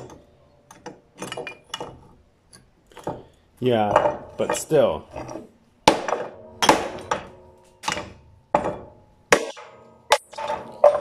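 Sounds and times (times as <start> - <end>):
cast iron pieces clanking: 0.0 - 11.0.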